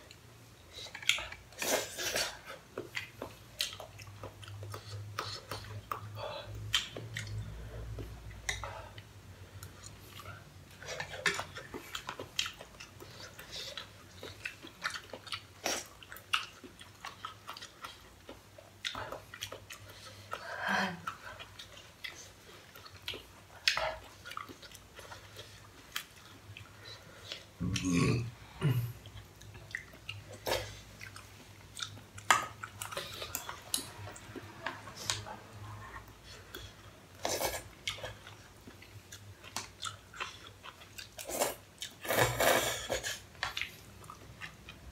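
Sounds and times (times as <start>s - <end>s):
wet chewing: 0.1s - 8.8s, 9.6s - 27.6s, 29.0s - 44.9s.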